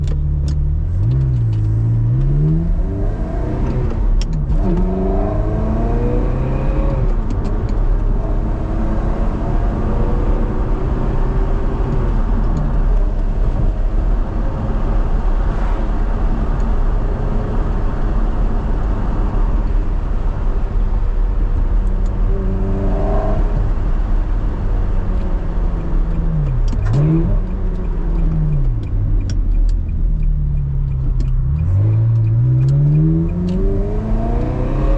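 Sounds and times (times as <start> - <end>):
sports car engine revving through gears: 0.1 - 34.9.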